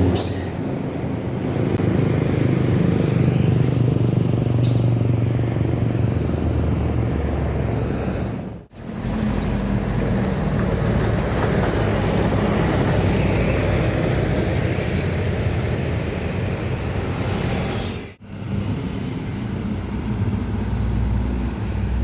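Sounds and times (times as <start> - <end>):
heavy truck engine passing: 0.0 - 22.0
vehicle passing: 0.0 - 22.0.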